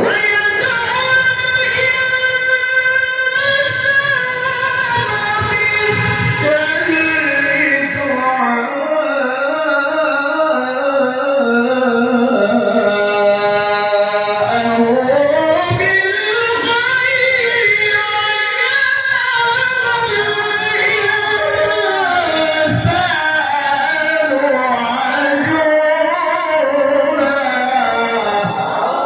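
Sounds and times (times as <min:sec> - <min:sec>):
man reciting melodically: 0:00.0 - 0:29.0.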